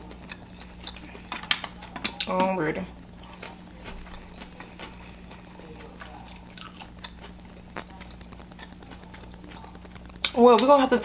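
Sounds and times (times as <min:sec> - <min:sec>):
person chewing with mouth closed: 0:00.0 - 0:02.5, 0:03.2 - 0:10.4.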